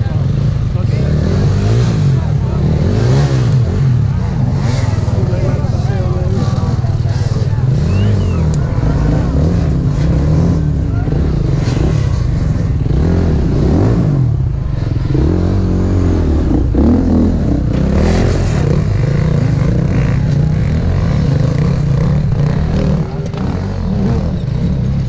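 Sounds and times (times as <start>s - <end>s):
two-stroke motorcycle engine revving: 0.0s - 25.0s.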